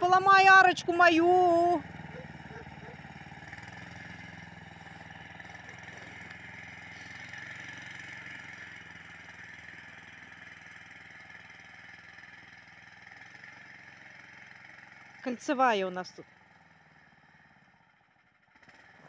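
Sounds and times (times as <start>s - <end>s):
snow tow engine running: 0.0s - 19.0s.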